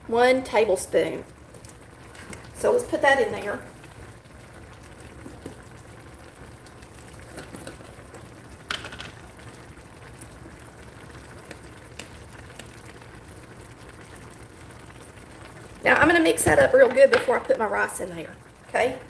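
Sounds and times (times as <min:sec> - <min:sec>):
food simmering soft bubbling: 0:00.0 - 0:19.0.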